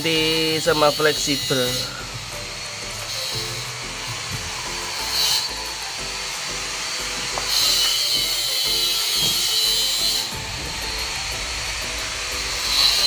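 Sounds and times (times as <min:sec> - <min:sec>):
background music with steady beat: 0:00.0 - 0:13.0
high-pitched power tool whine: 0:00.0 - 0:13.0.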